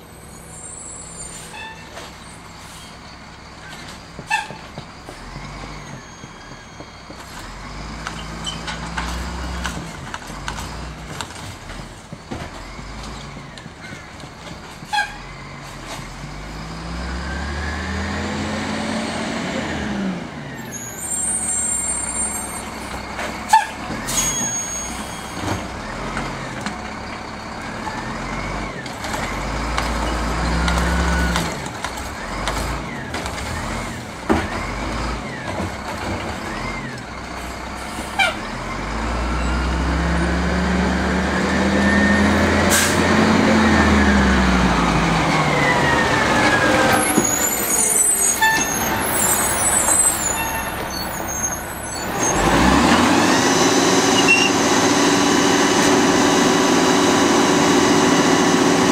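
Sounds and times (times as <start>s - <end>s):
garbage truck diesel engine revving: 7.0s - 58.9s.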